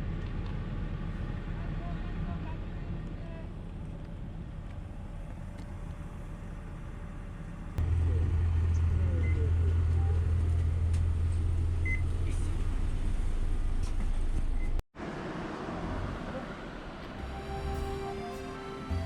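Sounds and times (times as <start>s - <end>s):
bus engine hum: 0.0s - 19.0s.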